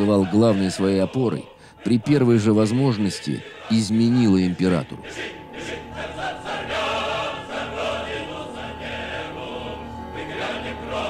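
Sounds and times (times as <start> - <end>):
choir singing held notes: 0.0 - 11.0
steady low drone: 0.0 - 11.0.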